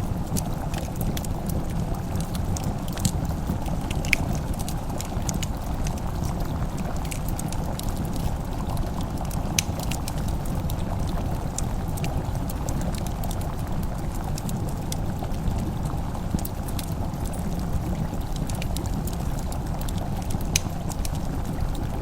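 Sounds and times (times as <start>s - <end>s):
fireplace crackling and popping: 0.0s - 22.0s
low steady rumble: 0.0s - 22.0s.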